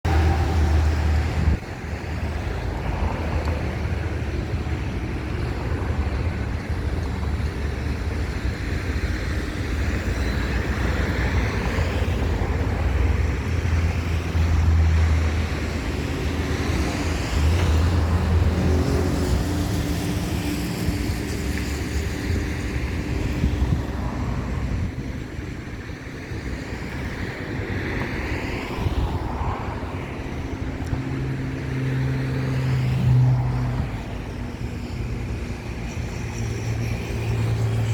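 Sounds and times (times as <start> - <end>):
road traffic passing: 0.0 - 37.9
wind buffeting microphone: 0.0 - 37.9.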